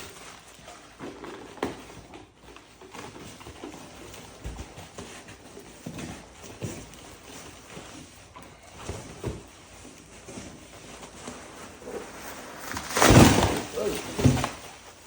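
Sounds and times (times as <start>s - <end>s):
packaging rustling and knocks: 0.0s - 15.0s.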